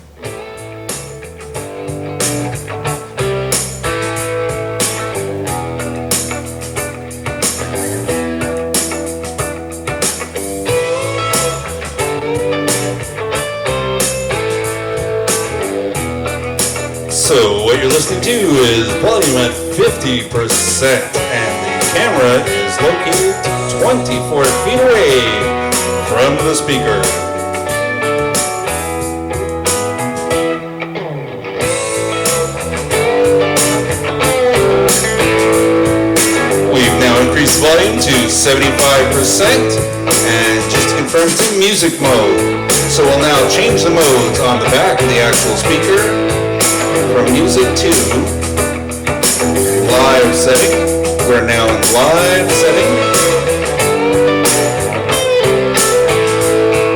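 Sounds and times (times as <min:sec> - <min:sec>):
blues guitar music over speaker: 0:00.0 - 0:56.9.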